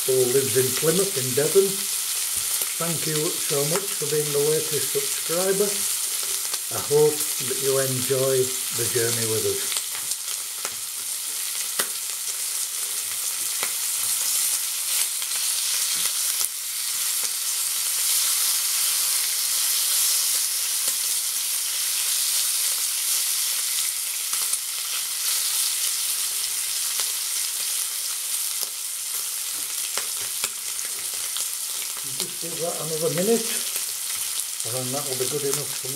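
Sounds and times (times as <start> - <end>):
bacon sizzling in a frying pan: 0.0 - 35.9.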